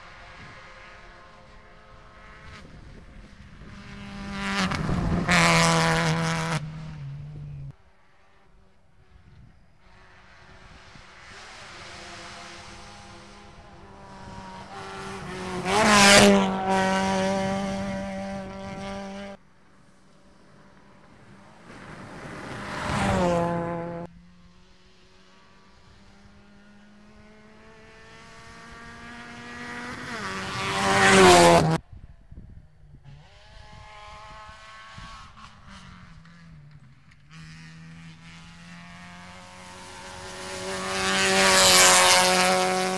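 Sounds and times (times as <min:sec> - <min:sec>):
rally cars passing at speed: 0:00.0 - 0:31.8, 0:33.0 - 0:42.9.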